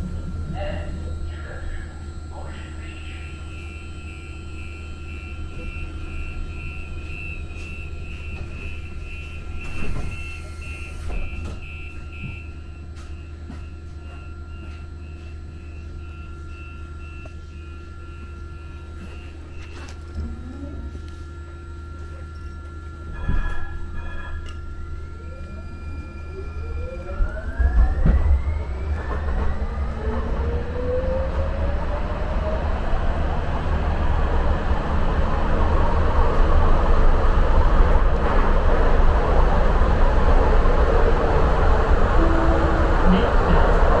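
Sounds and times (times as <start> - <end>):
train hum and rumble: 0.0 - 44.0.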